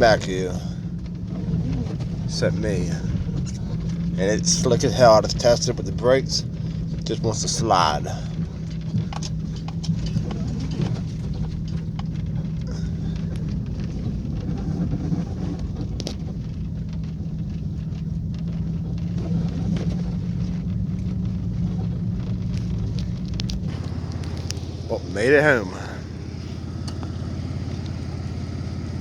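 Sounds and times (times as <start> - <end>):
car engine running: 0.0 - 29.0
tyres on snowy road: 0.0 - 29.0.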